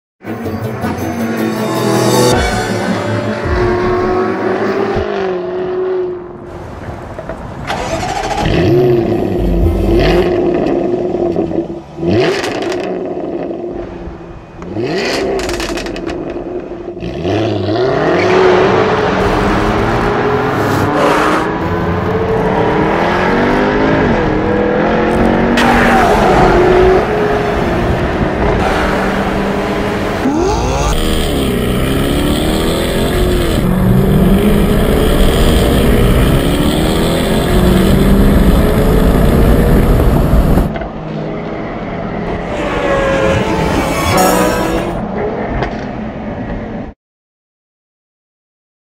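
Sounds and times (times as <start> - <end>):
car engine revving and accelerating: 1.2 - 6.4, 8.0 - 13.8, 14.6 - 45.8.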